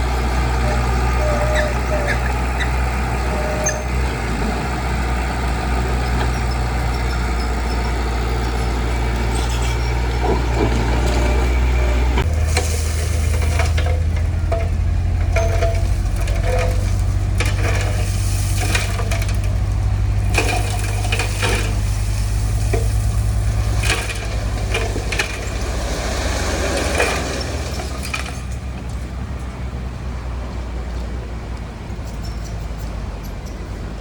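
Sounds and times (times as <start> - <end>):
diesel construction machine engine: 0.0 - 34.0.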